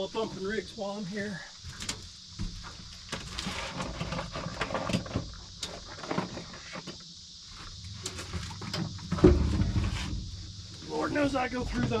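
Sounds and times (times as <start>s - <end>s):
steady high-pitched hiss: 0.0s - 12.0s.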